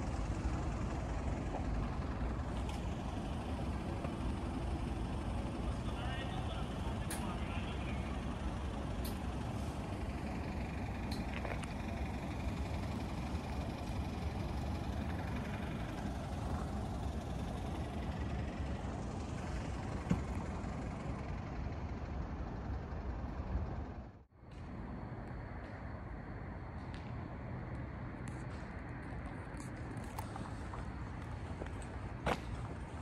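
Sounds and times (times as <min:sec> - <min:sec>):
low rumble of street noise: 0:00.0 - 0:33.0.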